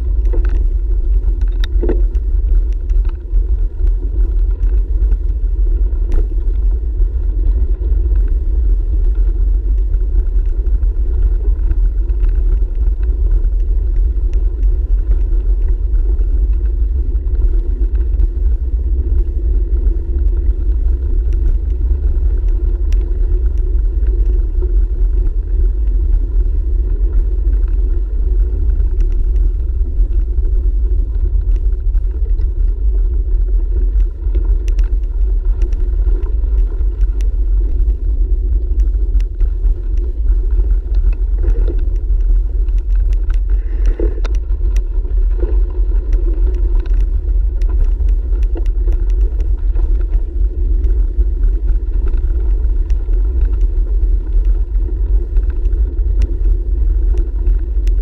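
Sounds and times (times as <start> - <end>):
wind and ride vibration rumble: 0.0 - 58.0.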